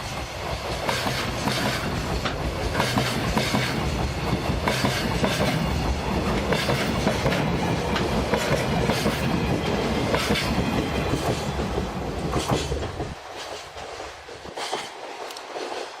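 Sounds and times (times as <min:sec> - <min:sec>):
train rumble: 0:00.0 - 0:16.0
train wheels clacking over rail joints: 0:00.0 - 0:16.0.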